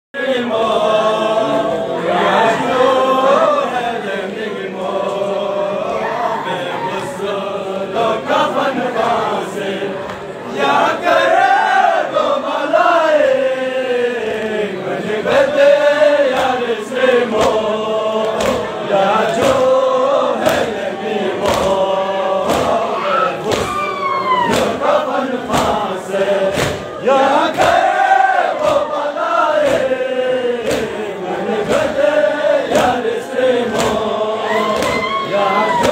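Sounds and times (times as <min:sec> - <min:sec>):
men chanting in unison: 0:00.2 - 0:35.9.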